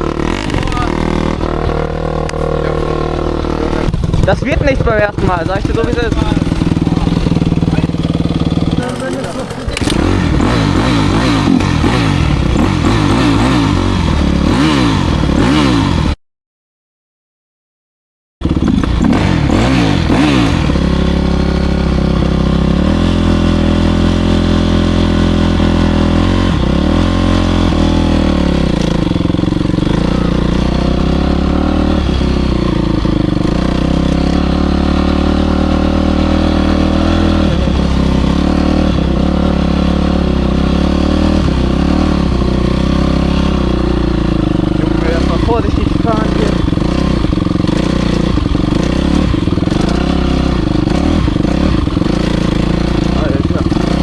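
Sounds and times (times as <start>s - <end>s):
motocross bike engine revving: 0.0s - 16.2s, 18.4s - 54.0s.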